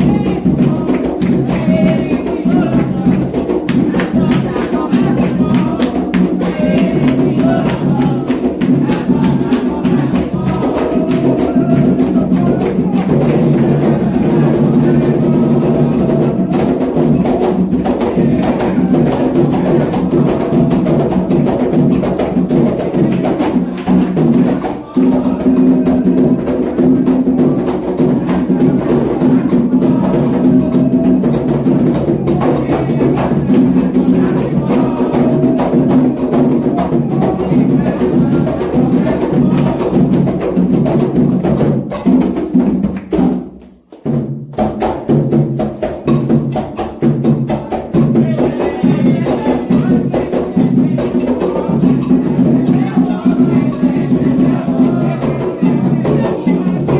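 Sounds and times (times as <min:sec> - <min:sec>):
hand drums playing fast rhythm: 0:00.0 - 0:56.9.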